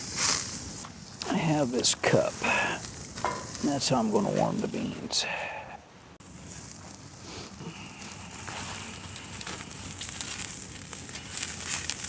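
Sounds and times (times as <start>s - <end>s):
meat sizzling over campfire: 0.0s - 5.1s, 6.2s - 12.0s
small fire crackles: 0.0s - 12.0s.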